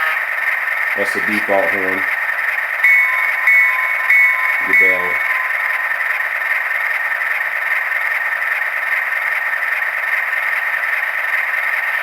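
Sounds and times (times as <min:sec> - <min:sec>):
model locomotive sound decoder hiss: 0:00.0 - 0:12.0.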